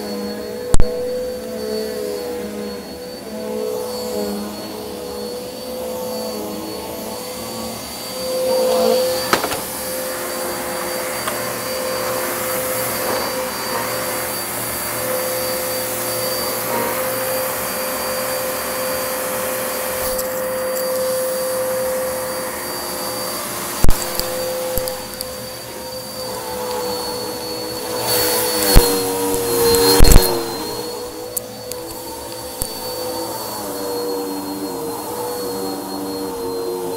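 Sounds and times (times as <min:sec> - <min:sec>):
vacuum cleaner whining: 0:00.0 - 0:36.9.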